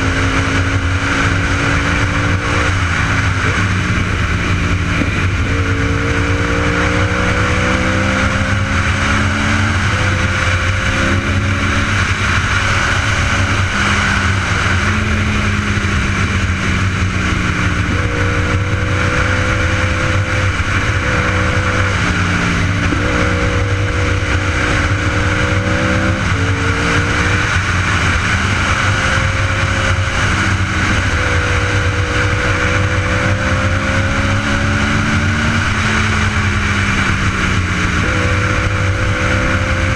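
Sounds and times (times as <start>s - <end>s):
heavy wind noise: 0.0s - 39.9s
motorcycle engine accelerating: 0.0s - 39.9s.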